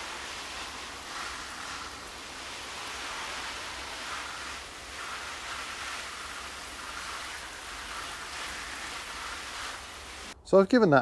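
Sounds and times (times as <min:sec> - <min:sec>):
water spraying onto soil: 0:00.0 - 0:10.4.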